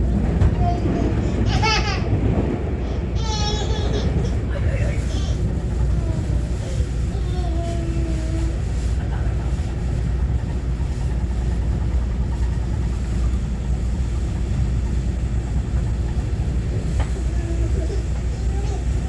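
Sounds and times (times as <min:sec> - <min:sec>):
train wheels on rails rumbling: 0:00.0 - 0:19.0.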